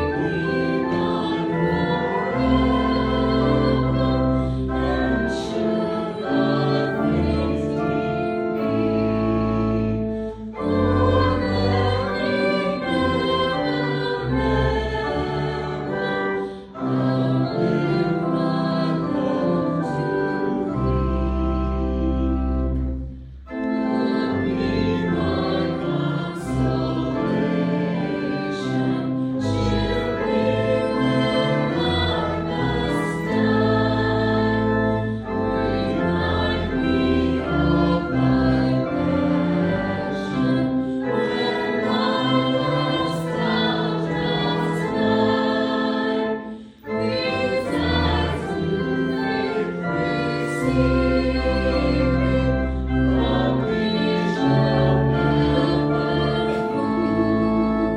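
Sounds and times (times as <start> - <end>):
choir singing a hymn: 0.0 - 57.9
organ bass notes: 0.0 - 57.9.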